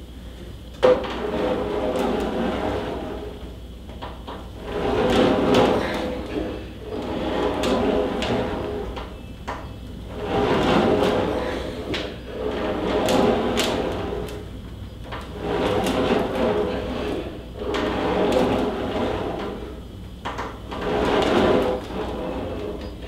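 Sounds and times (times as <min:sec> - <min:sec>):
ab wheel rolling on wood: 0:00.8 - 0:23.0.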